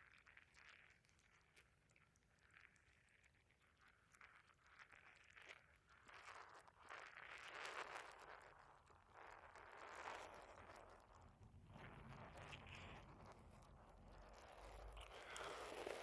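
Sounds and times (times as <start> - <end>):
faint stomach gurgling: 0.0 - 16.0.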